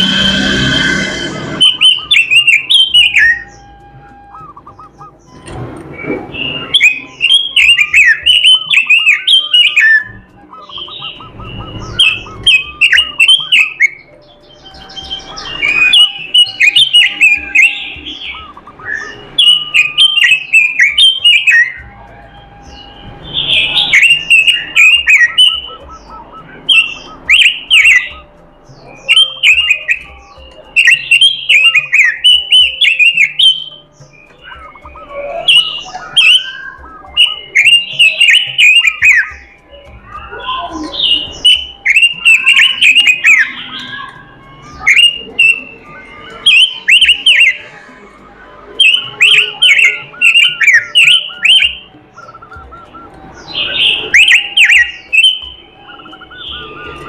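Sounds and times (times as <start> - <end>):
bird singing rapid phrases: 0.0 - 57.0.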